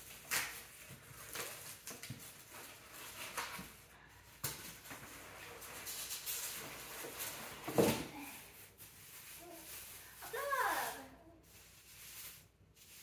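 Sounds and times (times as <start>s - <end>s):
cardboard and packing rustling: 0.0s - 13.0s.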